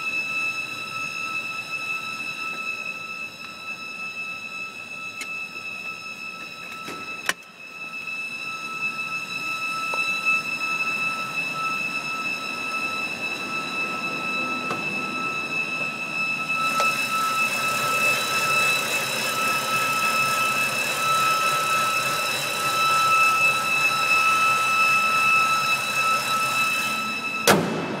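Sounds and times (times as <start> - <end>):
high-pitched whine: 0.0 - 28.0.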